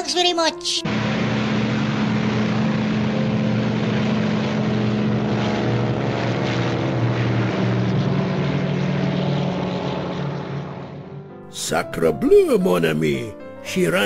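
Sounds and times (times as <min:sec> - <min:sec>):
propeller airplane taking off: 0:00.8 - 0:12.6.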